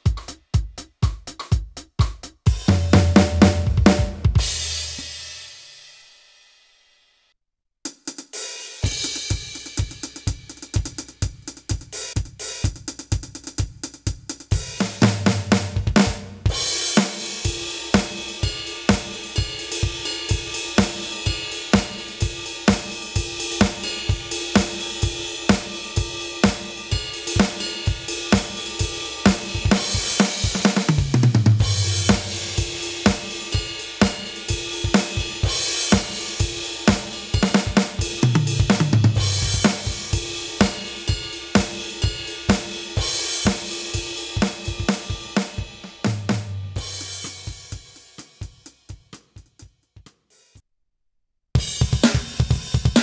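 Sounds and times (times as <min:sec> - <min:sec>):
electronic drum kit groove: 0:00.0 - 0:05.5, 0:07.9 - 0:50.6, 0:51.6 - 0:53.0.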